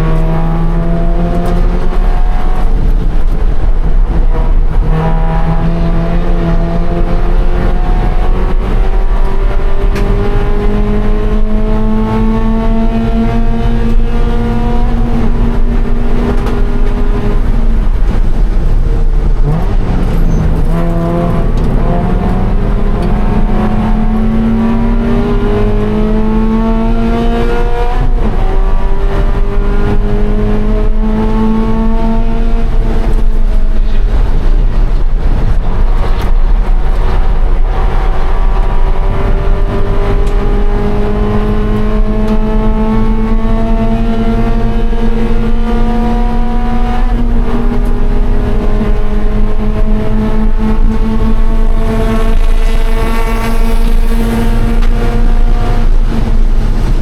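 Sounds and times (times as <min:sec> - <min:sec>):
car engine revving hard: 0:00.0 - 0:57.0
road and wind noise: 0:00.0 - 0:57.0.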